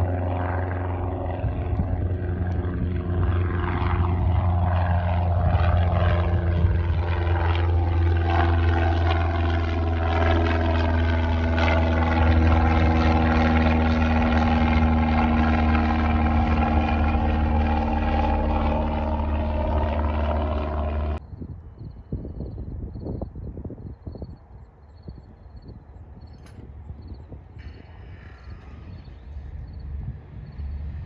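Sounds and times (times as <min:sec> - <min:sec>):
light airplane engine droning: 0:00.0 - 0:31.0.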